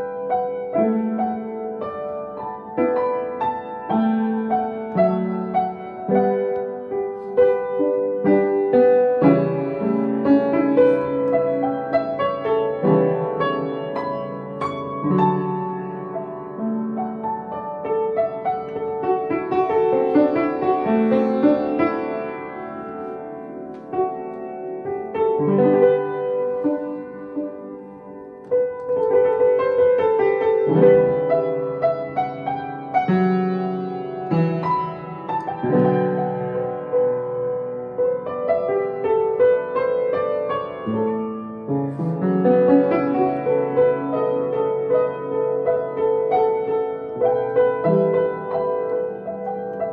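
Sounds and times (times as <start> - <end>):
slow solo piano piece: 0.0 - 49.9.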